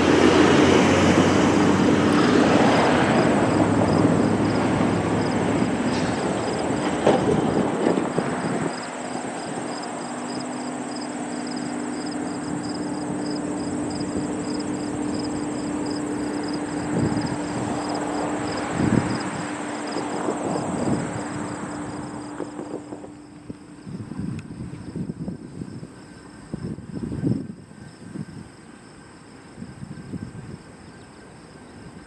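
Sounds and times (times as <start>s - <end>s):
freight train rumbling over rails: 0.0s - 32.0s
insects chirping: 0.0s - 32.0s.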